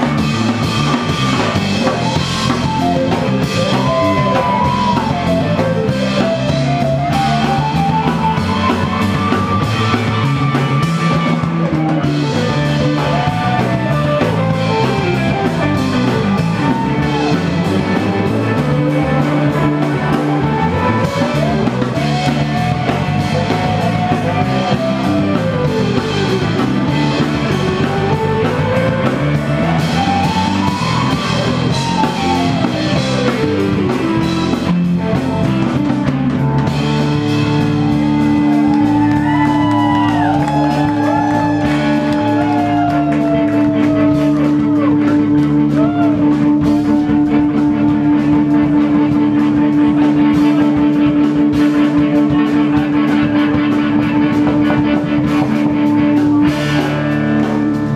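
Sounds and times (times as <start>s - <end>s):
gliding lead guitar line: 0.0s - 57.9s
live rock band jamming: 0.0s - 57.9s.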